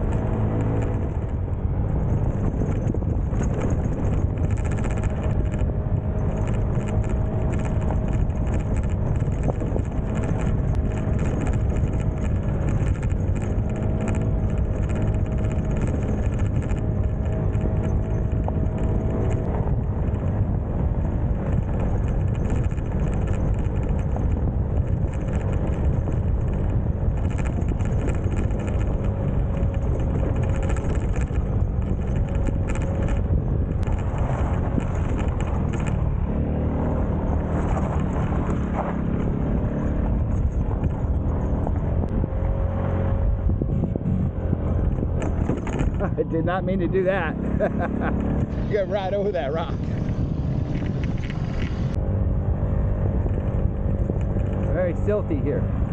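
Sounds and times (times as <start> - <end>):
heavy wind: 0.0 - 55.9
motorbike engine running: 0.0 - 55.9
road rumble: 0.0 - 55.9.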